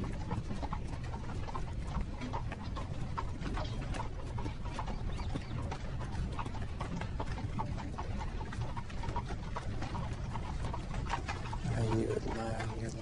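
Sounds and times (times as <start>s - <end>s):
horses' hooves clip-clopping: 0.0s - 13.0s
low carriage rumble: 0.0s - 13.0s.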